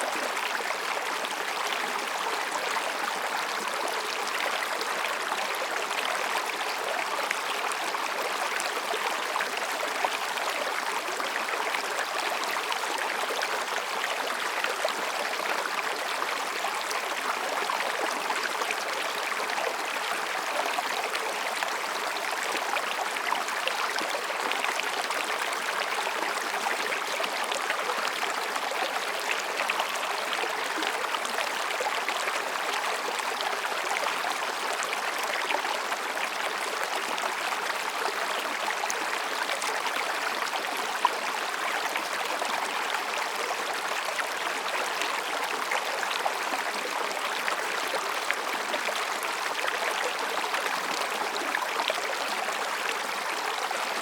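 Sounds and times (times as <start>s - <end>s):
stream babbling over rocks: 0.0s - 54.0s.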